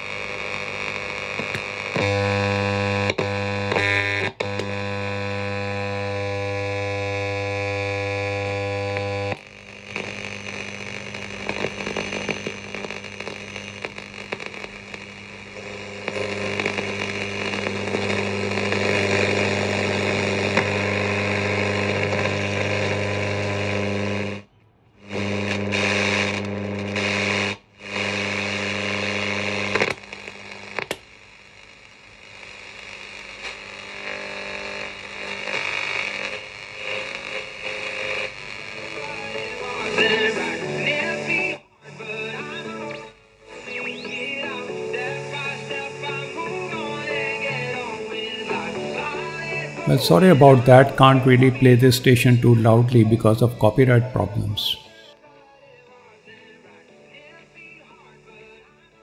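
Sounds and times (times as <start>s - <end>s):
radio speaker buzzing: 0.0s - 55.2s
radio static hiss: 0.0s - 55.2s.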